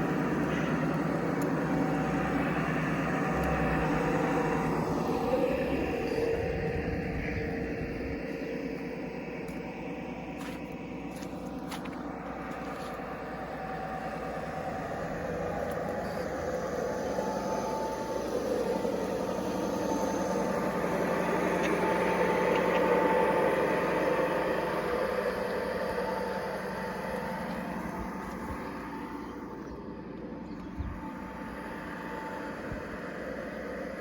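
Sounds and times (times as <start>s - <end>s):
model locomotive motor humming: 0.0s - 34.0s.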